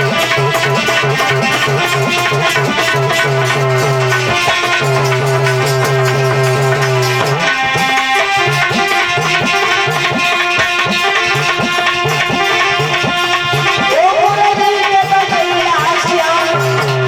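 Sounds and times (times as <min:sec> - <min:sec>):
sustained melodic accompaniment: 0:00.0 - 0:17.0
tabla playing a rhythm: 0:00.0 - 0:17.0.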